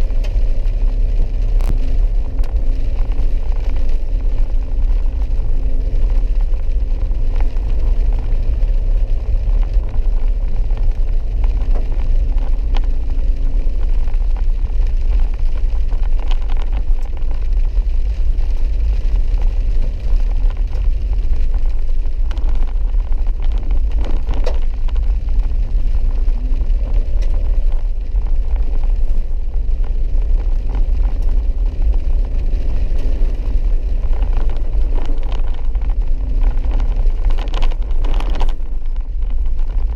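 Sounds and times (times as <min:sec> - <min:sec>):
engine and tyres rumbling: 0:00.0 - 0:39.9
engine hum: 0:00.0 - 0:39.9.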